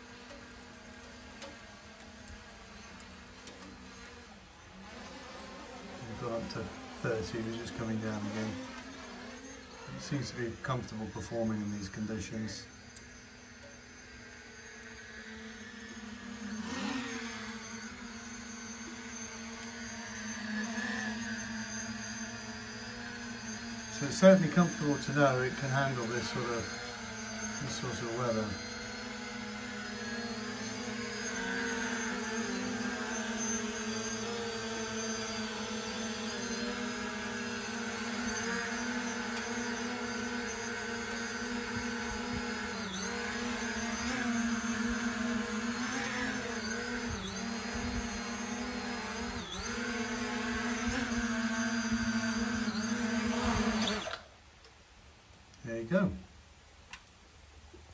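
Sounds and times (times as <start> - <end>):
drone propellers humming: 0.0 - 54.3.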